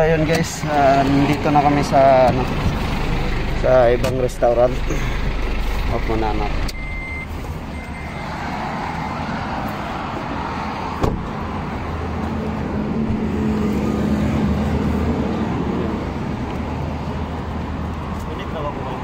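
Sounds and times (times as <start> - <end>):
road noise rumble: 0.0 - 19.0
vehicle engine hum: 0.0 - 19.0.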